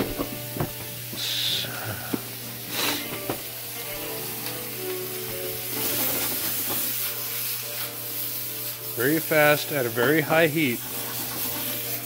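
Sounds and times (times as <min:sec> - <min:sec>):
faint background music: 0:00.0 - 0:12.0
stir-fry sizzling in a pan: 0:00.0 - 0:12.0.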